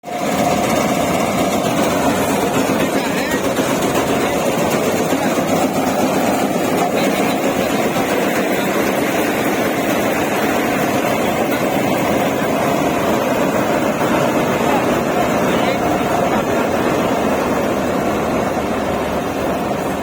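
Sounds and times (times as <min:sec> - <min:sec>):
farm machinery diesel engine: 0:00.0 - 0:20.0.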